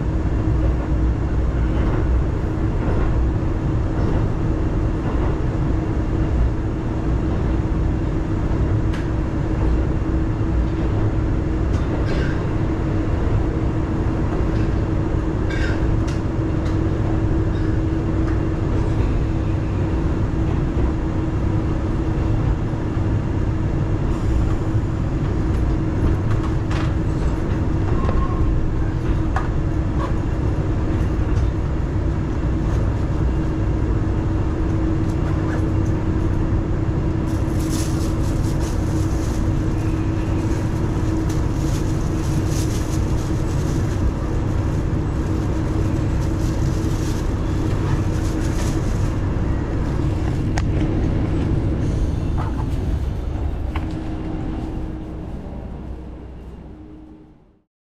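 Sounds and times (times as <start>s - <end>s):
diesel railcar engine drone: 0.0s - 57.7s.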